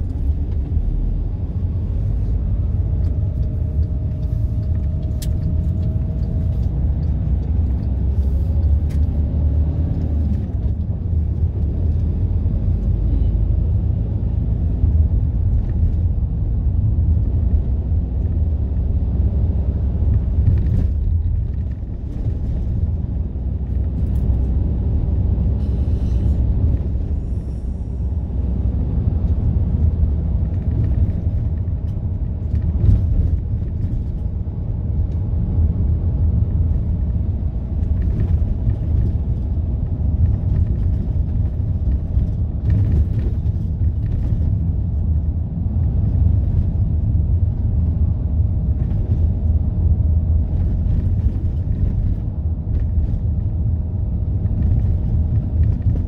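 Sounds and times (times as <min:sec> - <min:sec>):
van engine and road rumble: 0:00.0 - 0:56.0.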